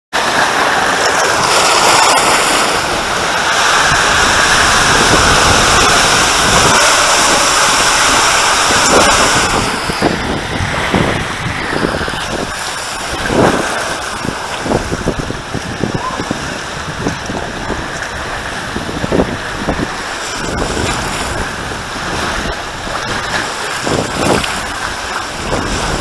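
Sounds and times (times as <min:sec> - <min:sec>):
water rushing in slide tube: 0:00.2 - 0:26.0.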